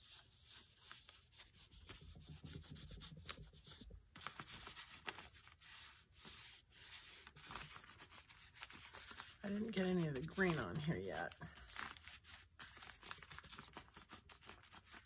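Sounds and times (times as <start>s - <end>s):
fingers rubbing paint on paper: 0.0s - 15.0s.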